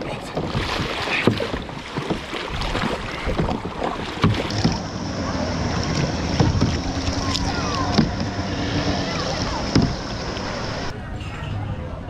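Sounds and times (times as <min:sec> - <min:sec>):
paddle blades splashing: 0:00.0 - 0:11.0
sloshing water: 0:00.0 - 0:11.0
paddle knocking against hull: 0:00.2 - 0:10.9.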